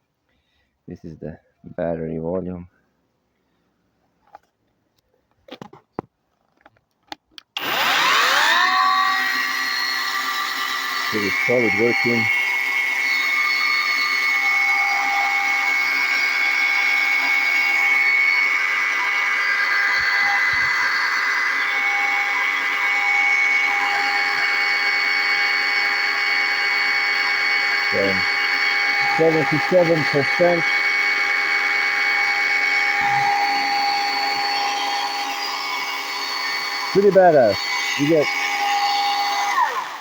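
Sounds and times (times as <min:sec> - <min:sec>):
electric chainsaw motor whine: 0:07.6 - 0:40.0.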